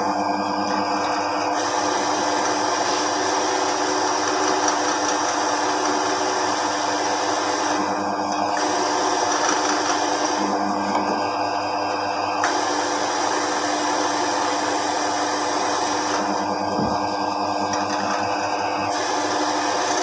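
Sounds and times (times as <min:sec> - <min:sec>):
wood lathe running: 0:00.0 - 0:20.0.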